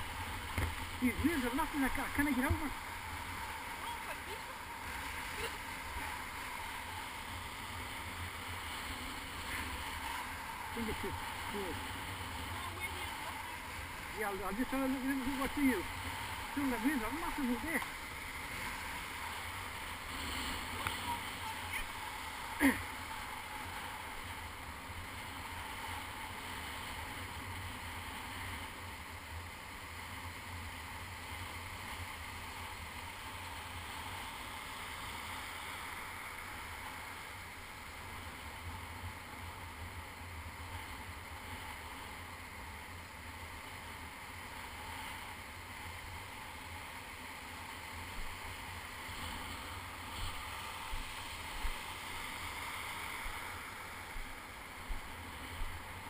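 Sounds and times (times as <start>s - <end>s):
shallow surf washing: 0.0s - 56.0s.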